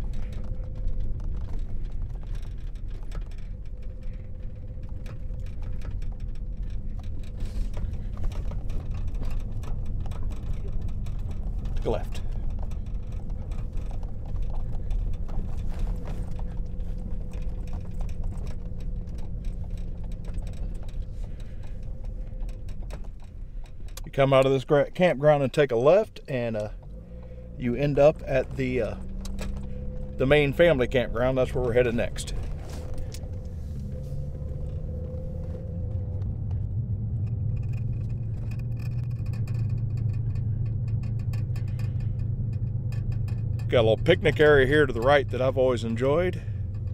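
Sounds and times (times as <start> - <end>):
car engine and tyre rumble: 0.0 - 46.9
gravel crunching under tyres: 0.0 - 46.9.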